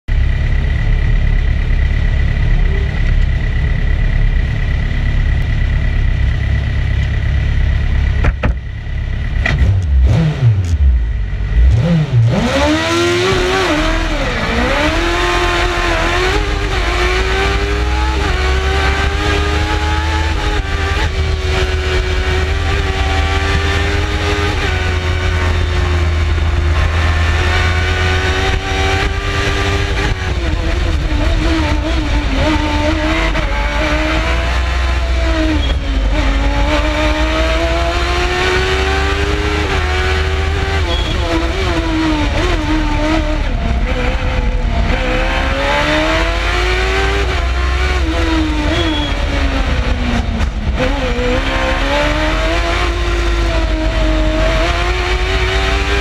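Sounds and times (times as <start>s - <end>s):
race car engine revving: 0.1s - 56.0s.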